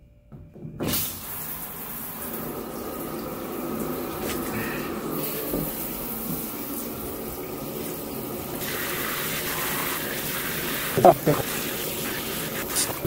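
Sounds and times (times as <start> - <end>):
shower spraying on tiled floor: 0.9 - 13.0.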